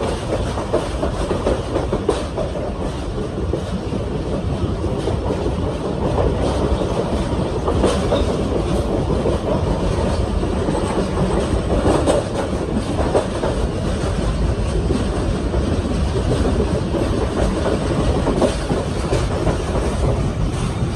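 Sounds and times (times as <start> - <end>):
train wheels clacking on rails: 0.0 - 20.9.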